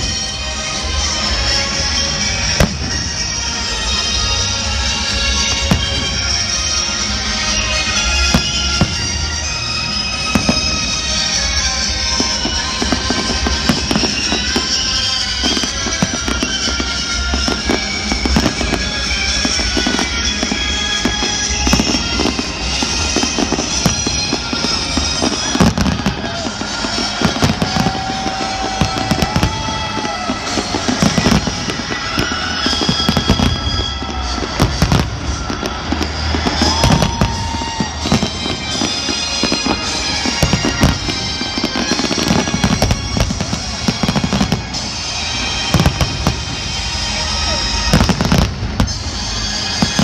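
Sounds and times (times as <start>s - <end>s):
fireworks bursting and crackling: 0.0s - 50.0s.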